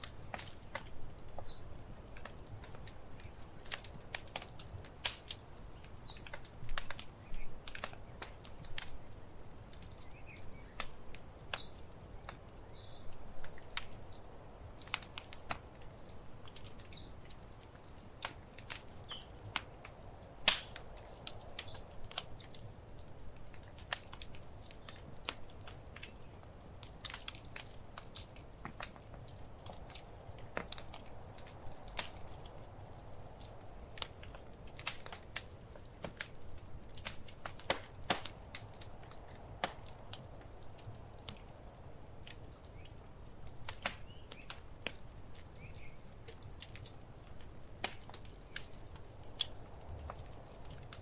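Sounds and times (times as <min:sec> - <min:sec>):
faint low hiss: 0:00.0 - 0:51.0
wood fire crackling: 0:00.0 - 0:51.0.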